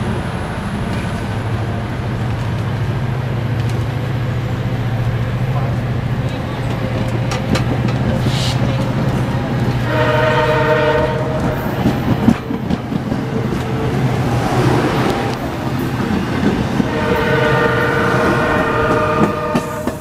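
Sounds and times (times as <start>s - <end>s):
train cars rolling past: 0.0s - 20.0s
wheels clacking on rails: 0.0s - 20.0s.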